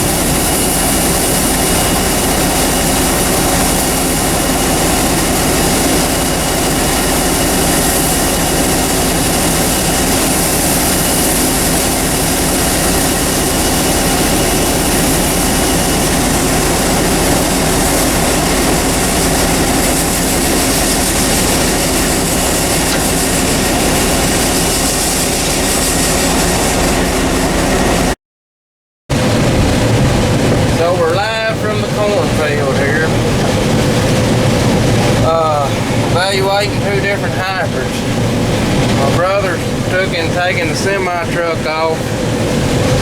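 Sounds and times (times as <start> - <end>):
combine harvester droning: 0.0 - 28.2, 29.1 - 43.0.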